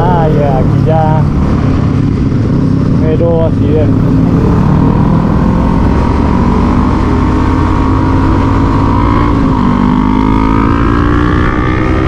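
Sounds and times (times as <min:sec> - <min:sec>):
motorcycle engine accelerating: 0:00.0 - 0:12.0
road and wind noise: 0:00.0 - 0:12.0.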